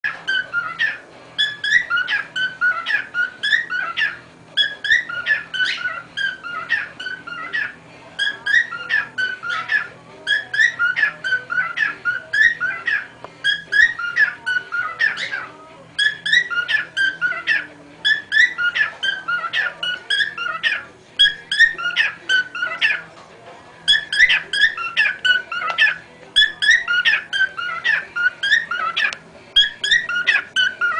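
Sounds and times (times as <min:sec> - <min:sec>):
cockatiel whistling: 0:00.1 - 0:23.0, 0:23.9 - 0:30.9.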